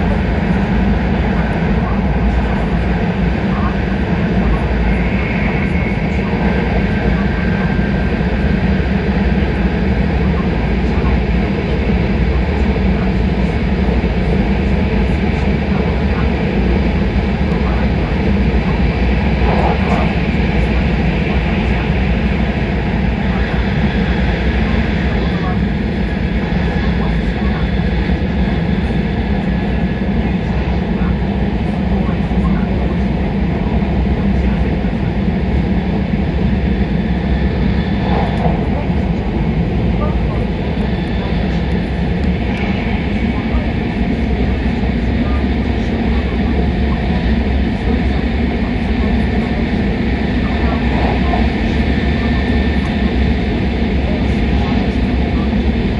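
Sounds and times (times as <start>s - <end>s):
high-speed train rumble inside cabin: 0.0s - 55.9s.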